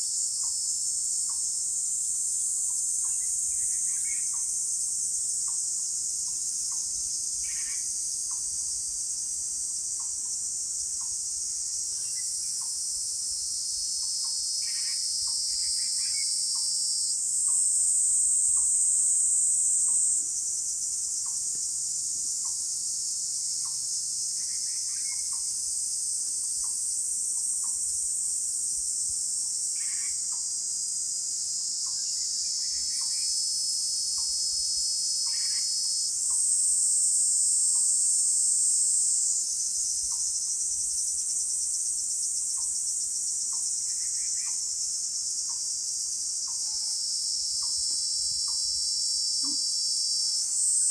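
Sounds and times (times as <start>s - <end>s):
insects singing: 0.0s - 50.9s.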